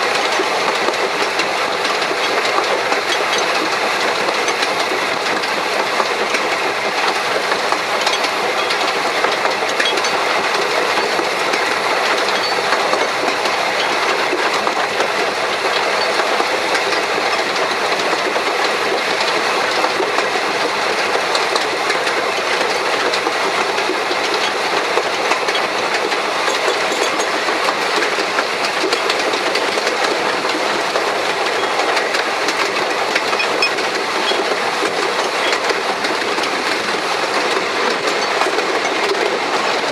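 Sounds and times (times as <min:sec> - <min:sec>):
steam locomotive wheels clattering: 0:00.0 - 0:39.9.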